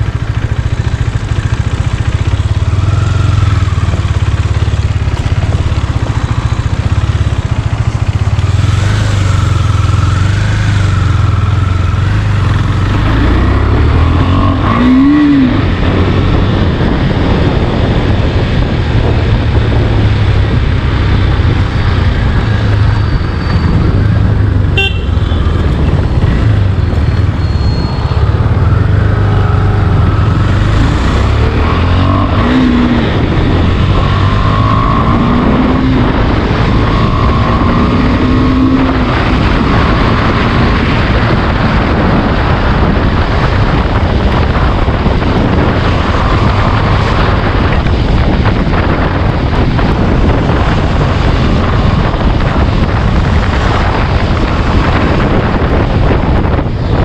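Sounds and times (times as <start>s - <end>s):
motorcycle engine accelerating: 0.0s - 57.0s
wind rush on microphone: 0.0s - 57.0s.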